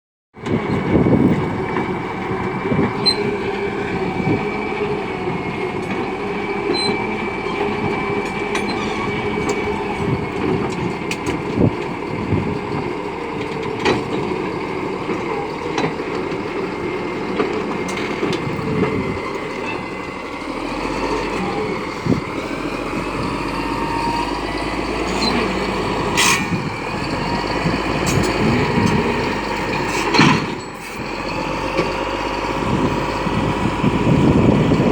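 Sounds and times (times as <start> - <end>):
bulldozer running: 0.4 - 34.9.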